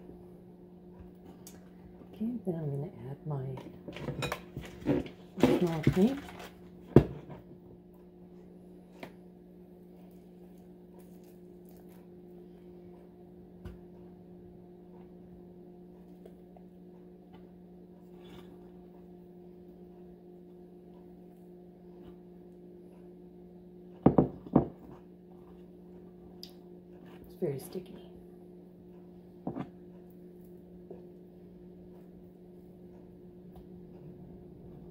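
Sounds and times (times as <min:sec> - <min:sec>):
low hum: 0:00.0 - 0:34.9.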